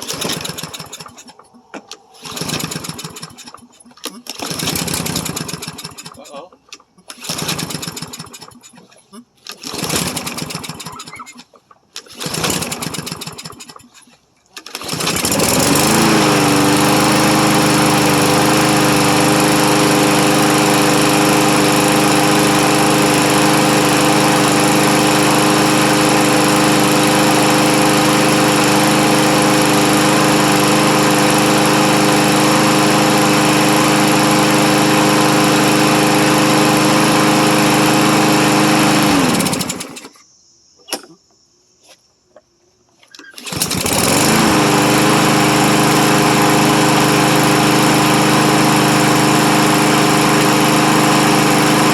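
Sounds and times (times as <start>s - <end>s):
lawn mower engine starting and running: 0.0s - 40.2s, 43.0s - 51.9s.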